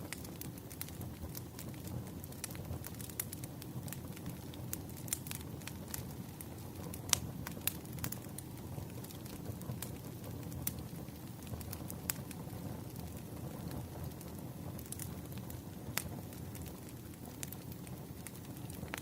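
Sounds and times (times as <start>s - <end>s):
firewood crackling and popping: 0.0s - 19.0s
low rumble of flames: 0.0s - 19.0s.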